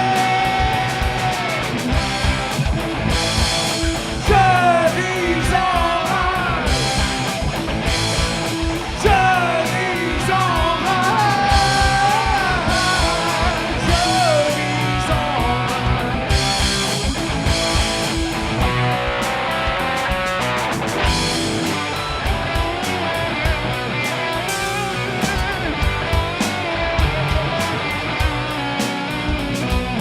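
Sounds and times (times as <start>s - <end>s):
bending lead guitar melody: 0.0s - 30.0s
rock band playing: 0.0s - 30.0s.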